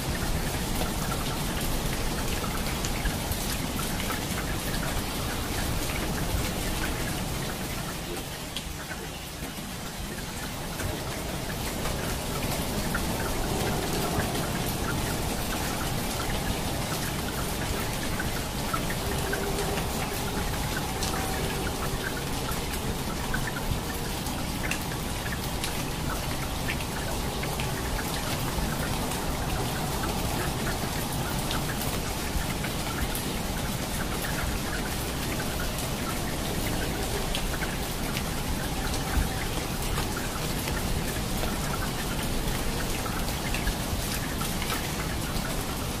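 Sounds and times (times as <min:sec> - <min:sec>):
rain drops ticking: 0:00.0 - 0:46.0
rain hiss: 0:00.0 - 0:46.0.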